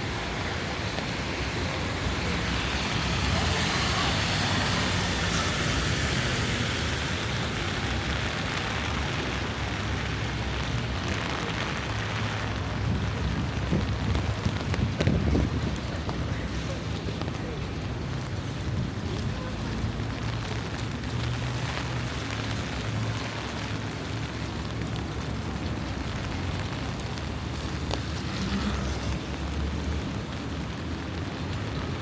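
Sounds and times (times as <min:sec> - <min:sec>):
rain on wet street: 0:00.0 - 0:32.0
traffic running: 0:00.0 - 0:32.0.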